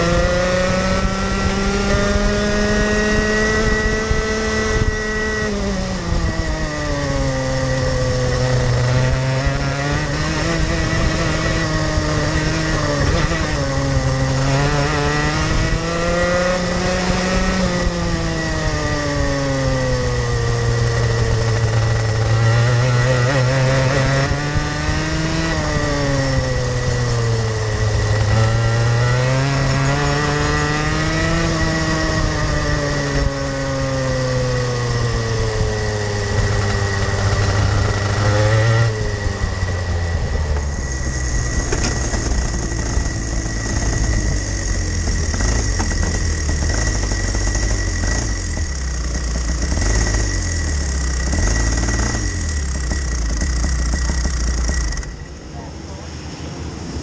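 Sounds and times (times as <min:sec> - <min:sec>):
two-stroke kart engine revving: 0:00.0 - 0:55.7.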